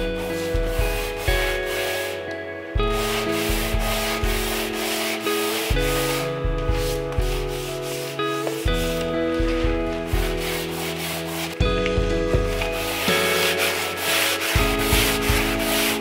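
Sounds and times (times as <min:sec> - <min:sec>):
hand sanding with sandpaper: 0:00.0 - 0:02.2, 0:02.8 - 0:11.6, 0:12.3 - 0:16.0
background music with a beat: 0:00.0 - 0:16.0.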